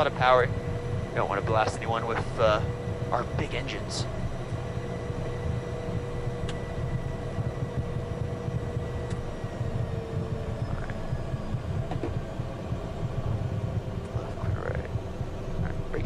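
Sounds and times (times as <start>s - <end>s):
faint steady whine: 0.0s - 16.0s
jet engine low rumble: 0.0s - 16.0s.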